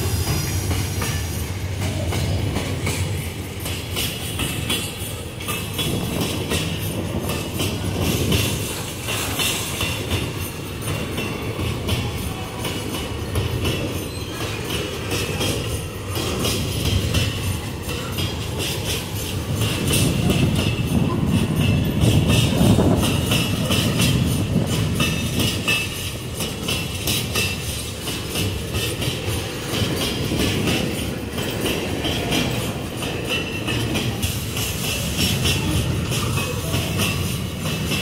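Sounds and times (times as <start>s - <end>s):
train wagons rumbling on rails: 0.0s - 38.0s
wheels clattering over rail joints: 0.0s - 38.0s.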